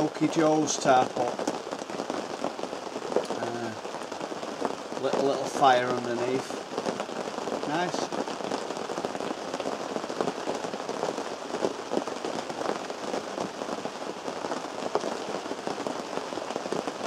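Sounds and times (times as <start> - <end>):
rain on a canvas tent: 0.0 - 17.0
sharp taps of raindrops: 0.0 - 17.0.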